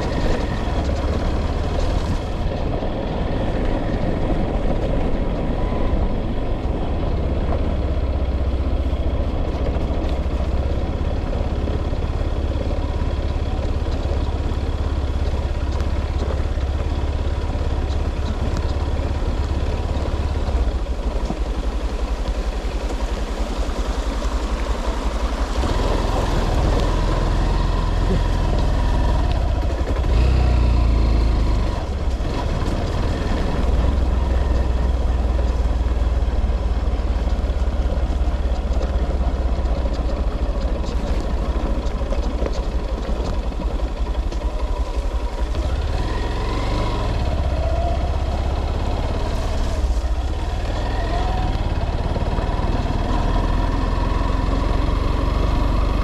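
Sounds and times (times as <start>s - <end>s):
motor vehicle rumbling: 0.0s - 56.0s.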